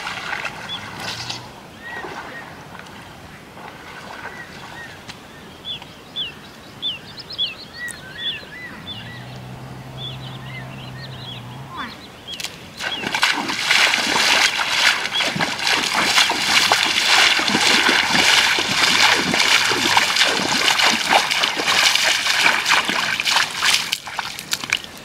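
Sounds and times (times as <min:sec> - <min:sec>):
feet splashing in shallow water: 0:00.0 - 0:05.3, 0:08.5 - 0:25.0.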